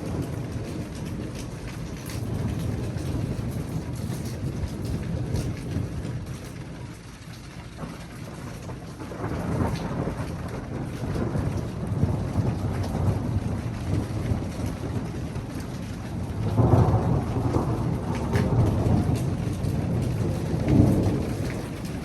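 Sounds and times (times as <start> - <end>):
raindrops ticking: 0.0 - 22.0
steady rain: 0.0 - 22.0
thunder rumbling: 0.0 - 22.0.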